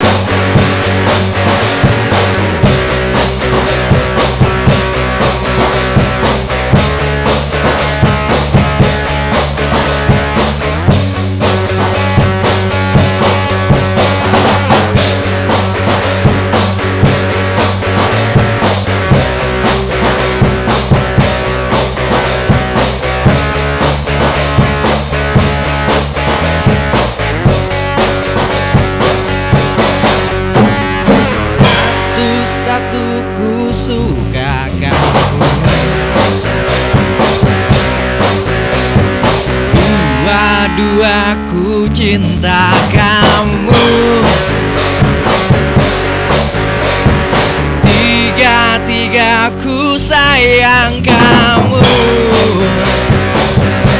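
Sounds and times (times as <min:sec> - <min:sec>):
instrumental rock music: 0:00.0 - 0:53.9.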